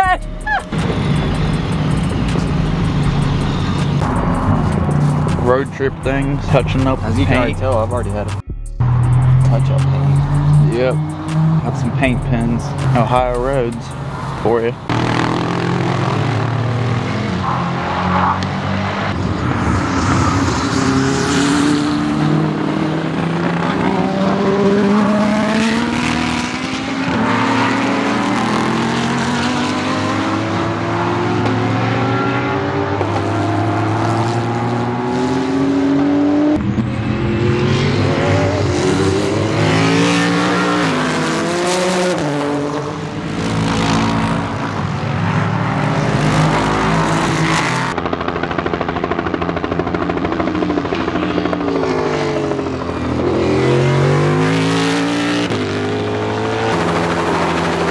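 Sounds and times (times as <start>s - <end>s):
race car engines: 0.0s - 57.9s.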